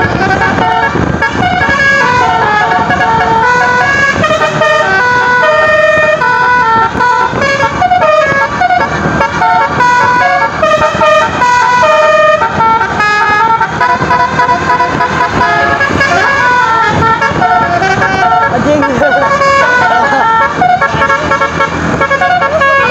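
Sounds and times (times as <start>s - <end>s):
musical bus horn playing a tune: 0.0s - 22.9s.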